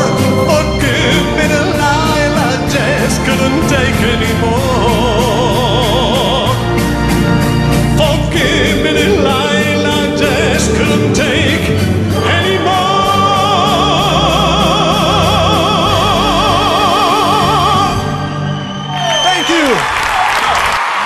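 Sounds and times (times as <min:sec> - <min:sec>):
man singing: 0:00.0 - 0:06.9, 0:07.9 - 0:18.2.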